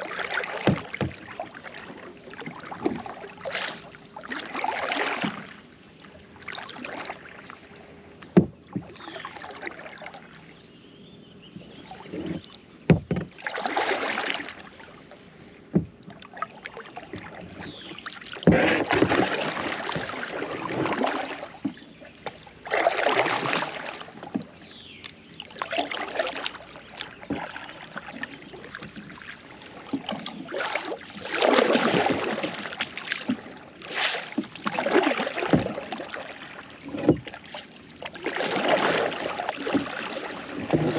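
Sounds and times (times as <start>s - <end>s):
paddle splashing water: 0.0s - 10.5s, 11.5s - 40.9s.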